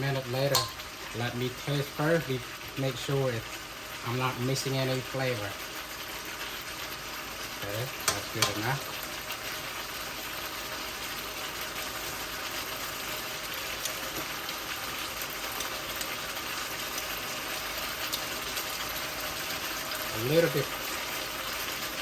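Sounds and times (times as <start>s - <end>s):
stir fry sizzling and bubbling: 0.0s - 22.0s.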